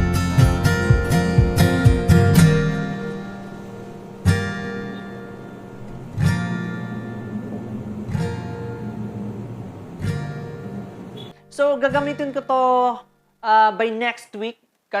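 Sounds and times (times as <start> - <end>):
strummed acoustic guitar chords: 0.0 - 12.6.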